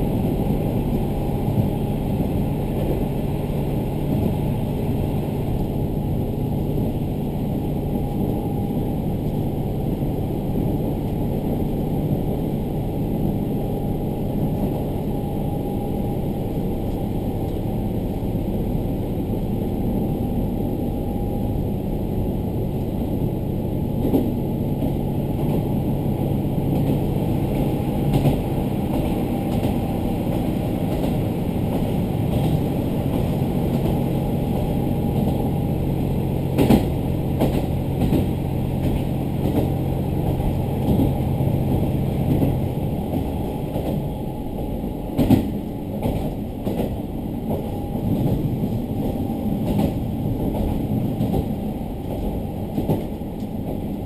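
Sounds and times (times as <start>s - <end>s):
diesel train engine: 0.0s - 54.0s
wheel and track rumble: 0.0s - 54.0s.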